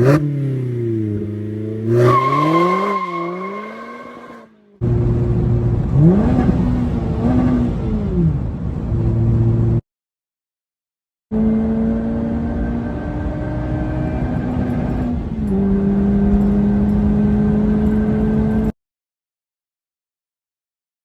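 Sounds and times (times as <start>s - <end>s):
car engine idling and revving: 0.0s - 9.8s, 11.3s - 18.7s.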